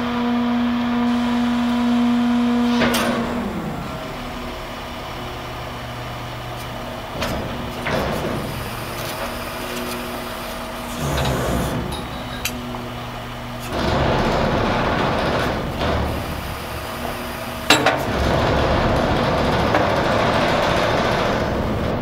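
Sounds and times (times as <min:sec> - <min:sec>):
garbage truck engine hum: 0:00.0 - 0:22.0
hydraulic packer cycling: 0:00.9 - 0:22.0.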